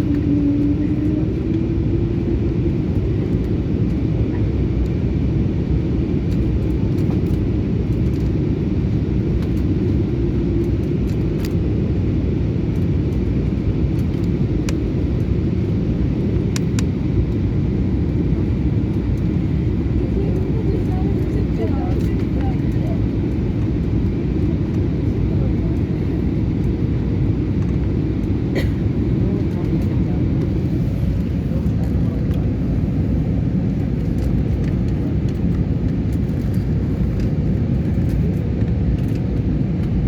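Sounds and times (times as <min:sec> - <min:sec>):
passenger jet rumble: 0:00.0 - 0:40.0.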